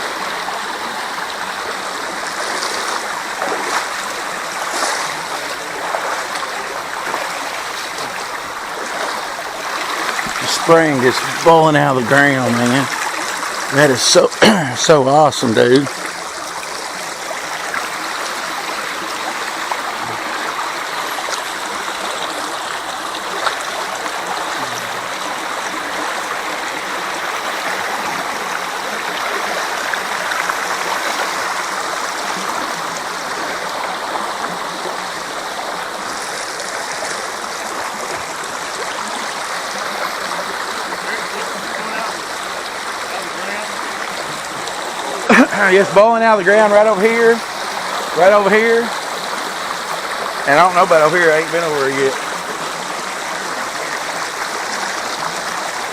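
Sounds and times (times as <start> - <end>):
spring water gurgling rush: 0.0 - 55.9.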